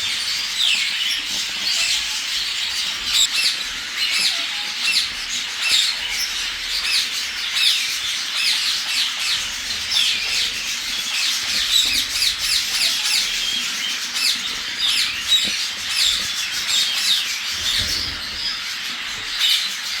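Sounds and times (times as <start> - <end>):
parrots squawking: 0.0 - 20.0.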